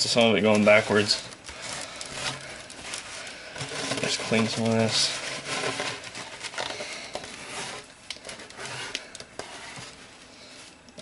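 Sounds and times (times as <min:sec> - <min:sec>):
rubbing and brushing: 0:00.0 - 0:11.0.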